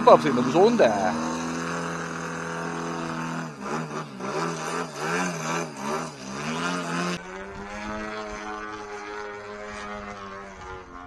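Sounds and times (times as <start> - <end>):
model plane engine and propeller: 0.0 - 11.0.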